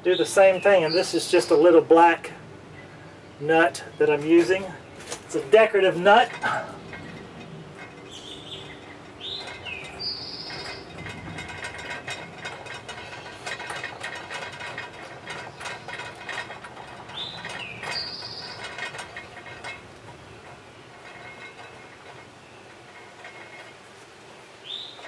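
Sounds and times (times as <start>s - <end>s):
metal nut clicking and scraping: 4.0s - 25.0s.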